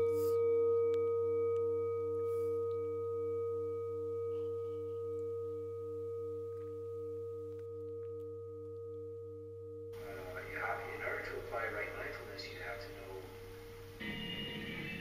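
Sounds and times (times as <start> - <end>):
lower bowl tone pulsing: 0.0 - 15.0
singing bowl ringing: 0.0 - 15.0.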